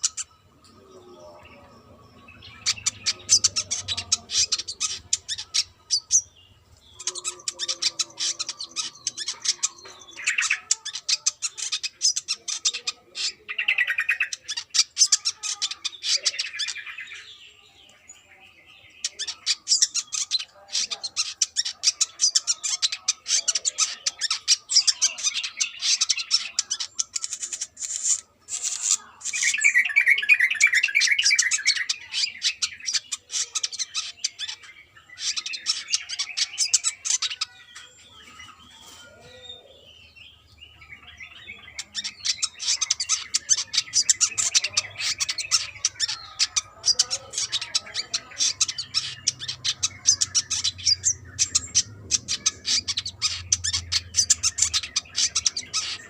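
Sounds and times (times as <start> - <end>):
bird high-pitched twittering song: 0.0 - 56.0.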